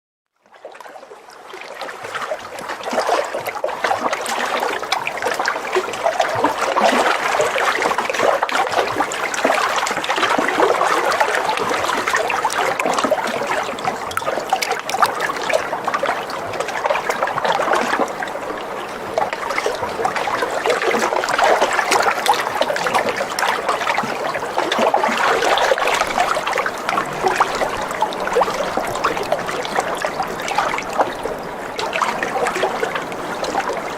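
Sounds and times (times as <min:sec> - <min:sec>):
water trickling and splashing: 0:00.4 - 0:33.9.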